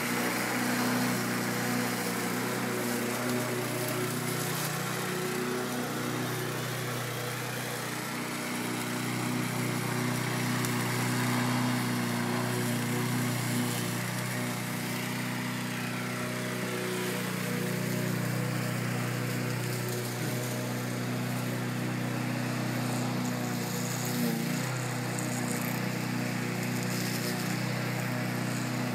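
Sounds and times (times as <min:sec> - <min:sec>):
racing lawn mower engines running: 0:00.0 - 0:28.9.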